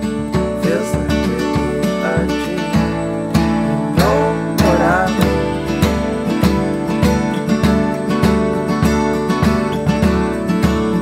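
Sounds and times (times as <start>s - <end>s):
acoustic guitar song with steady beat: 0.0s - 11.0s.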